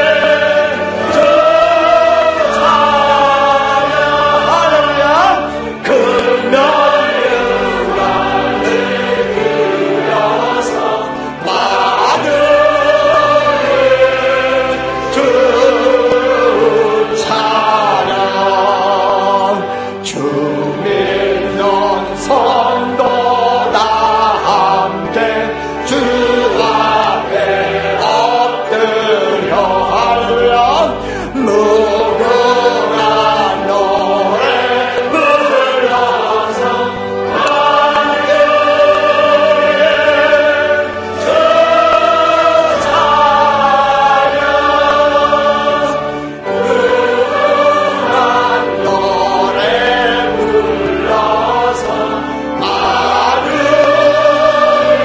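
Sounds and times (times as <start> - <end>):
congregation and choir singing a hymn: 0.0 - 55.0.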